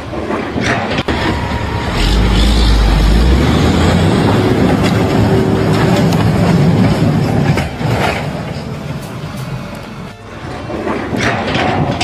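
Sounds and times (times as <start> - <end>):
heavy vehicle rumbling: 0.0 - 12.0.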